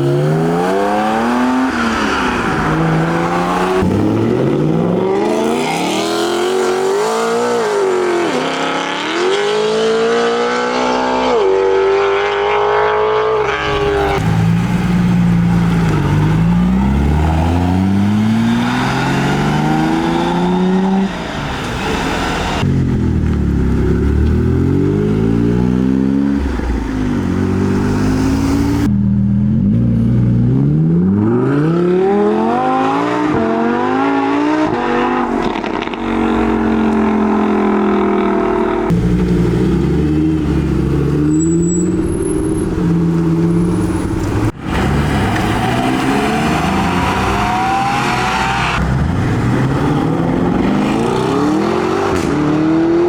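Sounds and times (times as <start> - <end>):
car engines revving and accelerating: 0.0 - 53.0.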